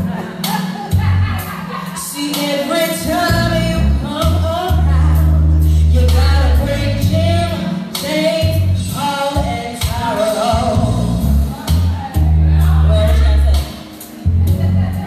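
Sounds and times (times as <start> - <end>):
woman singing into a microphone: 0.0 - 14.0
backing music with heavy bass: 0.0 - 15.0.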